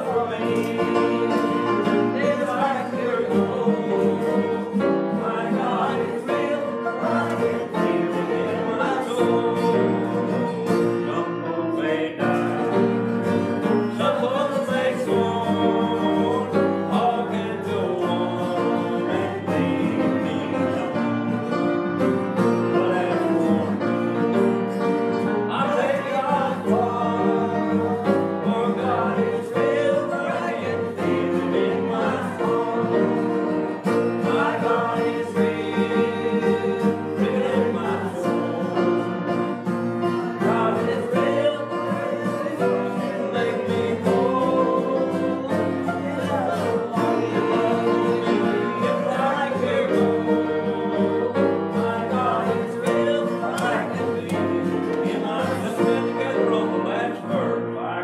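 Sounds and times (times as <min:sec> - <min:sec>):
acoustic guitar: 0:00.0 - 0:58.0
congregation singing a hymn: 0:00.0 - 0:58.0.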